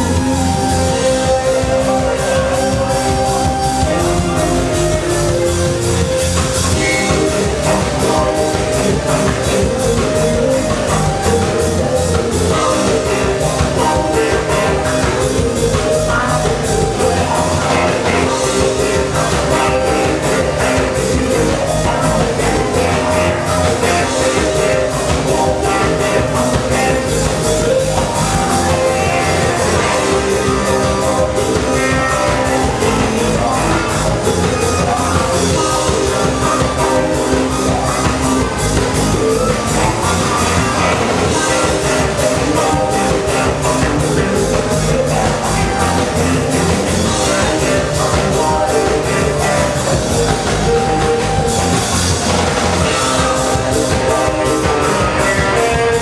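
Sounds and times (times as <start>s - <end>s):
drum kit beat: 0.0s - 56.0s
live band playing: 0.0s - 56.0s.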